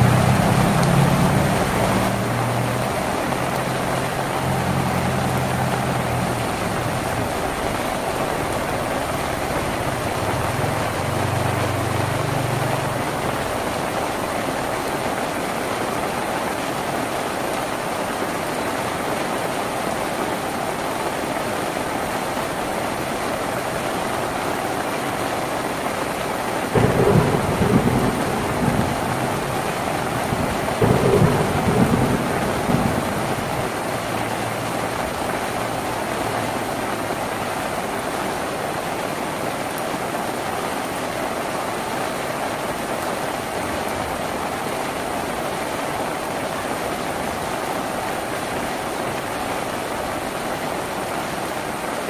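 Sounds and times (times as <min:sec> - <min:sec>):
rain on a tin roof: 0:00.0 - 0:52.0.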